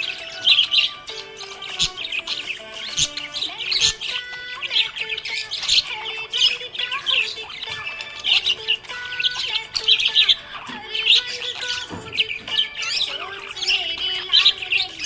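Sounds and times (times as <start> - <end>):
budgerigar chirping and squawking: 0.0 - 15.0.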